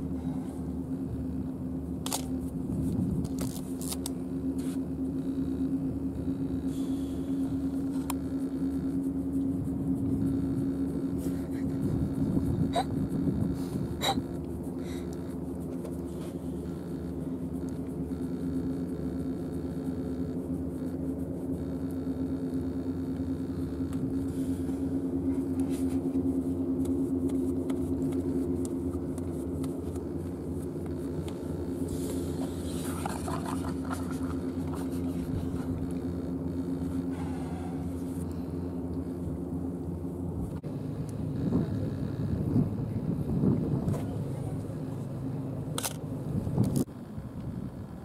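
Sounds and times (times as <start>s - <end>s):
steady engine hum: 0.0s - 48.0s.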